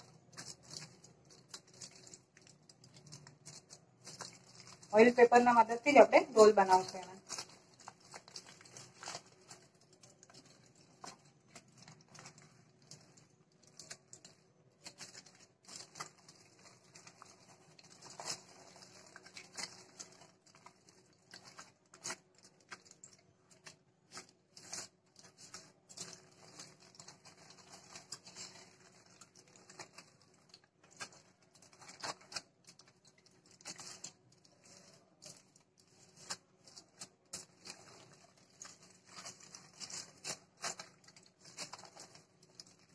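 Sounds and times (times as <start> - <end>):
aluminium foil crinkling: 0.0 - 42.9.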